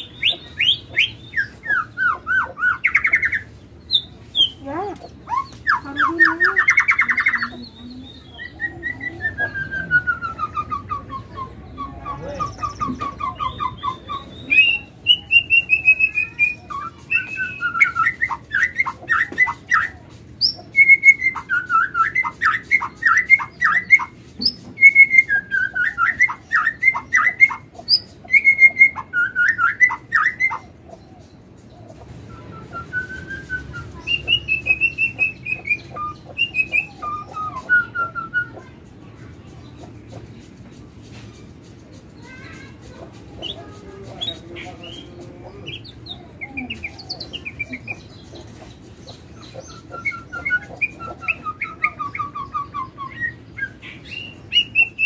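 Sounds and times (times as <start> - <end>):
songbird singing trills: 0.0 - 38.9, 43.3 - 55.0.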